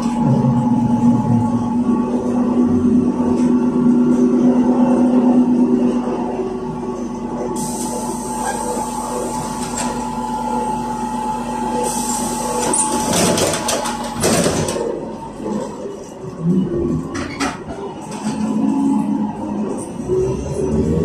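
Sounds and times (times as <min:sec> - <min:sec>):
trolleybus electrical whine: 0:00.0 - 0:21.0.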